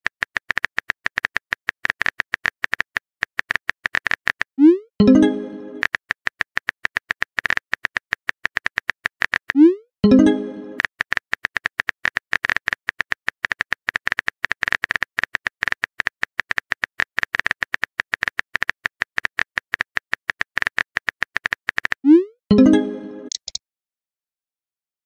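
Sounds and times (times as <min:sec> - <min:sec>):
keyboard typing clicks: 0:00.3 - 0:23.6.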